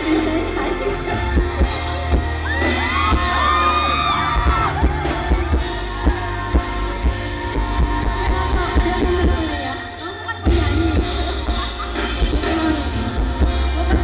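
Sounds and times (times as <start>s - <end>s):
steady drum beat: 0.0s - 9.8s, 10.4s - 14.0s
live band music: 0.0s - 14.0s
person singing: 0.0s - 14.0s.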